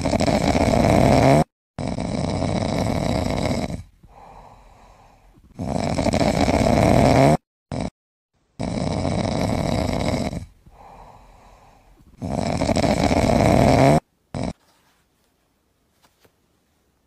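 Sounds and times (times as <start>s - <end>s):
loud rattling snoring: 0.0s - 8.0s, 8.6s - 14.6s.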